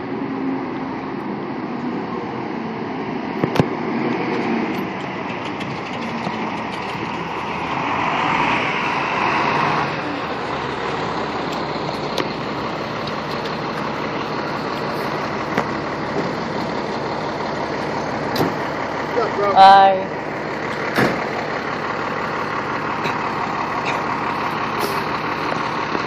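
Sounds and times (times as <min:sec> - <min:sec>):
fire engine diesel engine passing: 0:00.0 - 0:26.0
street traffic: 0:00.0 - 0:26.0.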